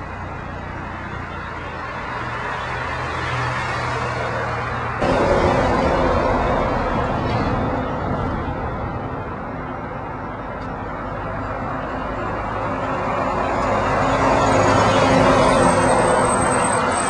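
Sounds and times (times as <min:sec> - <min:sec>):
vehicle approaching on road: 0:00.0 - 0:17.0.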